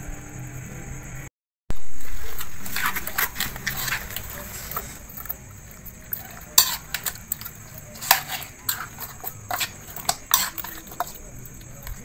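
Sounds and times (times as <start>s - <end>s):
metal spoon scraping metal pan: 1.9s - 12.0s.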